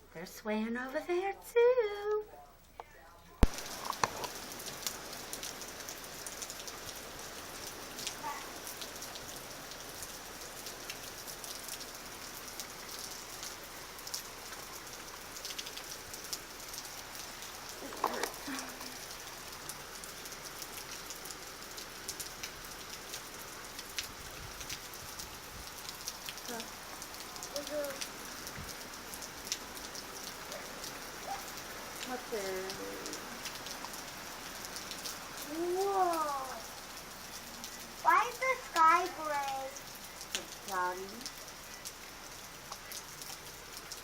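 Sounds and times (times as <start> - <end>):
heavy rain falling: 3.4 - 44.0.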